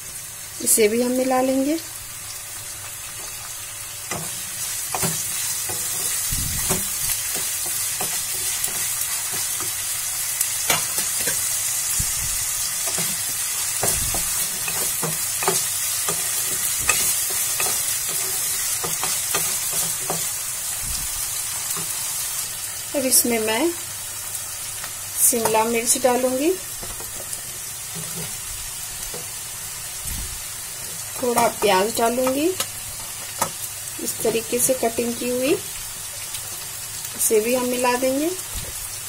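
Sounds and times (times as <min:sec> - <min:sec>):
vegetables sizzling in hot oil: 0:00.0 - 0:39.0.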